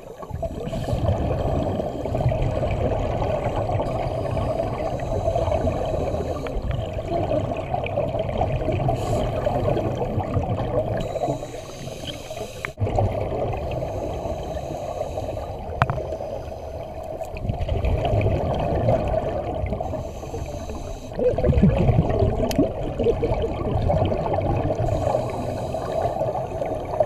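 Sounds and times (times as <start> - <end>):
underwater regulator bubbles gurgling: 0.0 - 27.0.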